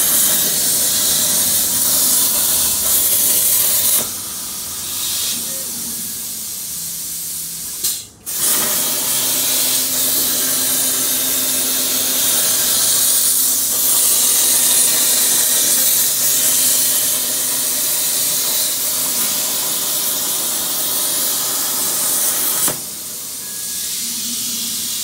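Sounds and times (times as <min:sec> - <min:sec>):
plasma torch hissing: 0:00.0 - 0:25.0.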